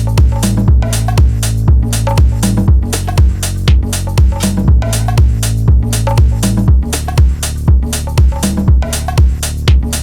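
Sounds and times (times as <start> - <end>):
bass line: 0.0 - 10.0
low kick drum: 0.0 - 10.0
music with steady beat: 0.0 - 10.0
sharp percussion: 0.0 - 10.0.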